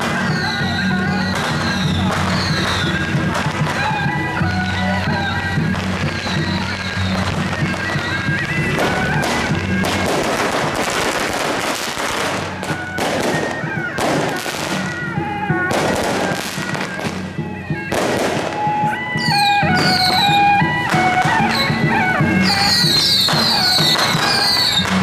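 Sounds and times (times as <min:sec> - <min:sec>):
firecrackers crackling: 0:00.0 - 0:25.0
procession music: 0:00.0 - 0:25.0.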